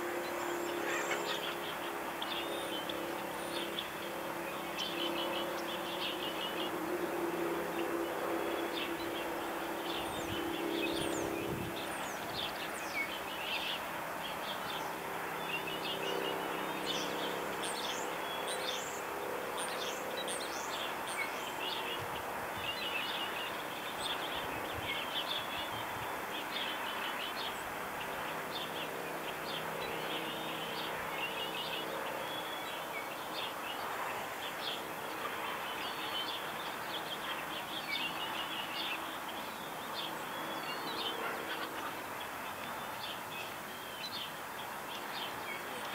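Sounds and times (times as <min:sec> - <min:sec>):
small birds chirping: 0:00.3 - 0:06.8, 0:07.4 - 0:45.9.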